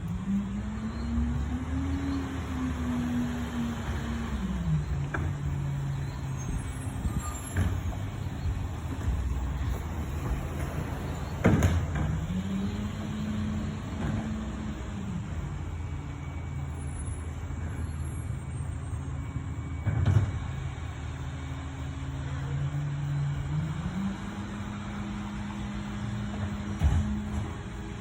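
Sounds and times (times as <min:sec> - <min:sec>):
diesel engine revving: 0:00.0 - 0:28.0.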